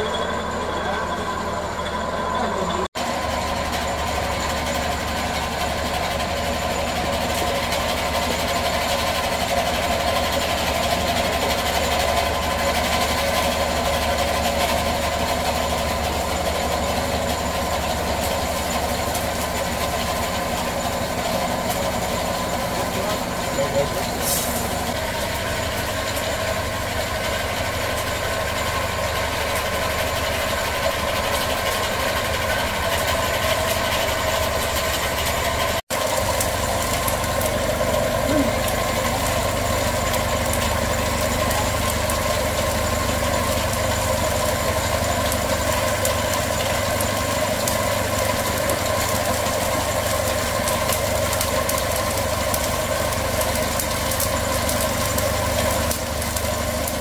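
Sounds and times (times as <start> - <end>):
machine motor humming: 0.0 - 57.0.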